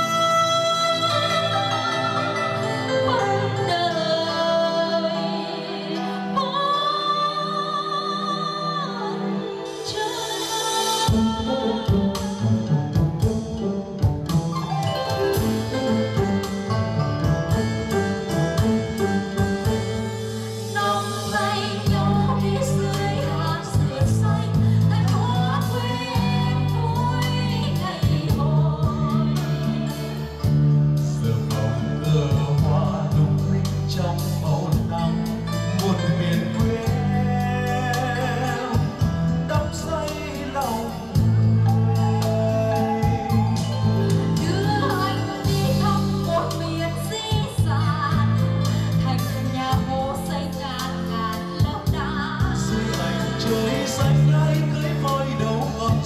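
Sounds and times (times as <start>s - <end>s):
man and woman singing duet: 0.0s - 14.0s, 17.4s - 56.0s
instrumental accompaniment: 8.8s - 56.0s
steady bass line: 11.1s - 56.0s.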